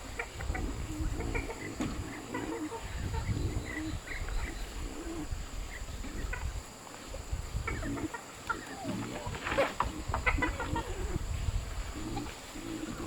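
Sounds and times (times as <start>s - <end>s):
farm animal calls: 0.0s - 13.0s.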